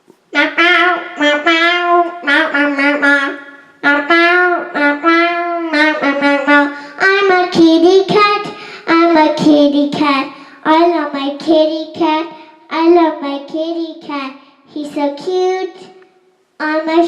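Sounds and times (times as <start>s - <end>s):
child singing: 0.3s - 15.9s, 16.6s - 17.0s.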